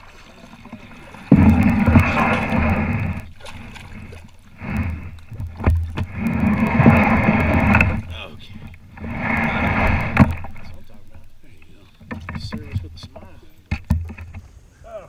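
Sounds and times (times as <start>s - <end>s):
kayak hull scraping over sticks: 0.0s - 14.7s.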